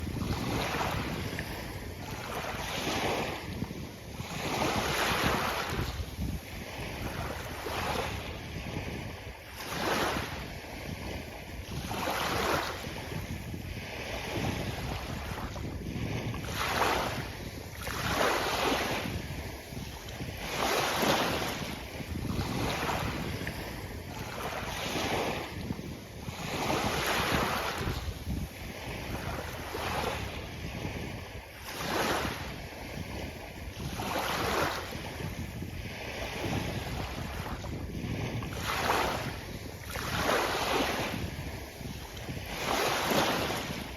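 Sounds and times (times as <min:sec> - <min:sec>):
sea waves breaking on beach: 0:00.0 - 0:43.9
wind buffeting microphone: 0:00.0 - 0:43.9.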